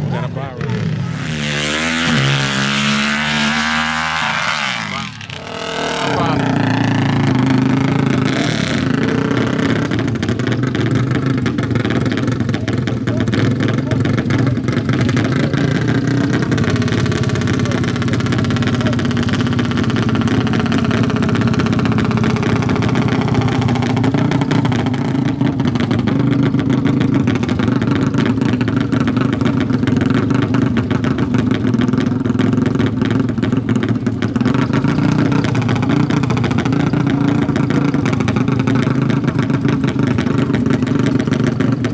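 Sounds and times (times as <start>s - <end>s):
quad engine running steadily: 0.0s - 41.9s.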